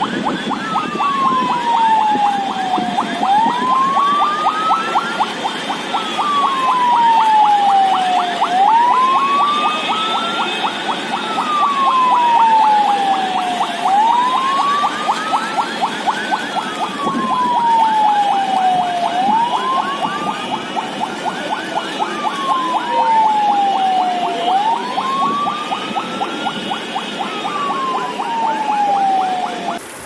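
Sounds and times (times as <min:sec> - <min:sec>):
siren wailing: 0:00.0 - 0:30.0.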